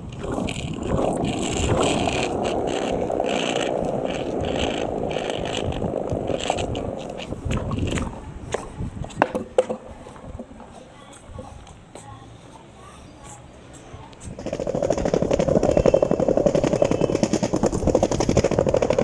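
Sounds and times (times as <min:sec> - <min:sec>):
skateboard wheels rolling on pavement: 0:00.0 - 0:19.0
skateboard sharp clacks: 0:00.1 - 0:12.1, 0:14.2 - 0:19.0.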